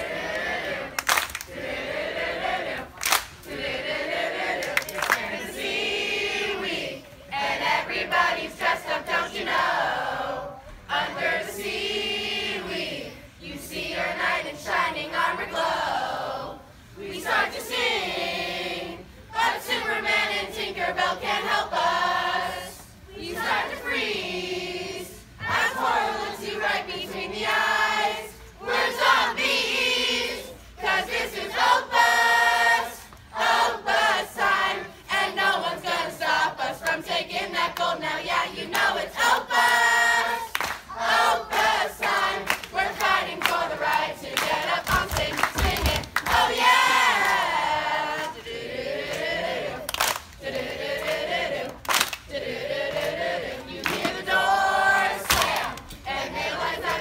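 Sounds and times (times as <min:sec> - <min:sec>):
children and adults singing: 0:00.0 - 0:57.0.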